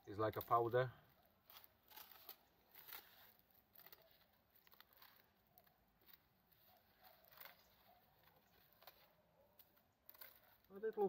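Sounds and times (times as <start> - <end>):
faint crackles and rustles: 0.0 - 11.0.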